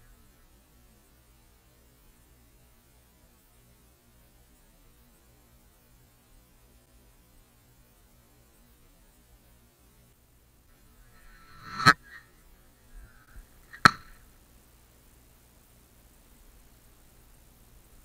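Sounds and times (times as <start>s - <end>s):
faint low hum and hiss: 0.0s - 18.0s.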